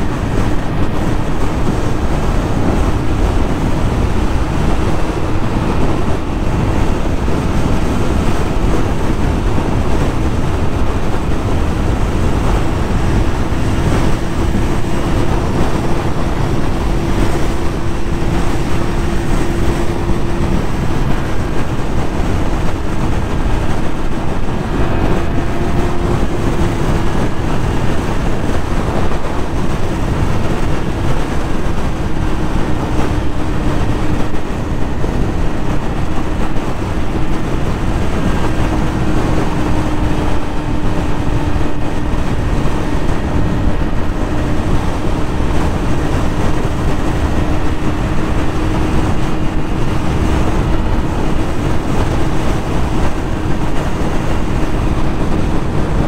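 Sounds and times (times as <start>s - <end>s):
motorcycle engine cruising: 0.0s - 56.0s
wind rush on microphone: 0.0s - 56.0s.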